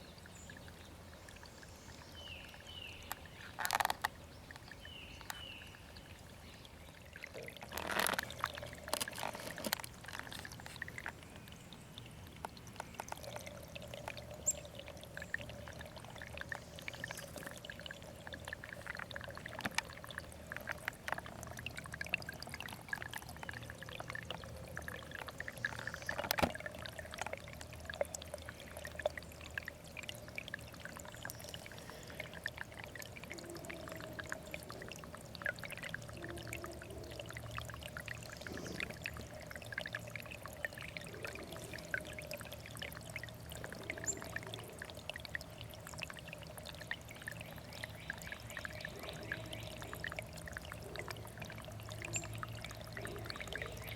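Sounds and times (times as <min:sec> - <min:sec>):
stream trickling and burbling: 0:00.0 - 0:53.9
water plinks and clicks: 0:00.0 - 0:53.9.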